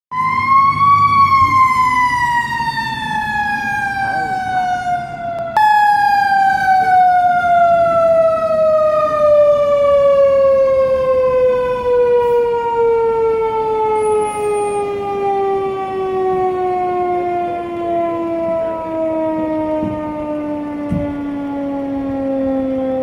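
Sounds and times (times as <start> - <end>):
fire engine siren falling: 0.1 - 23.0.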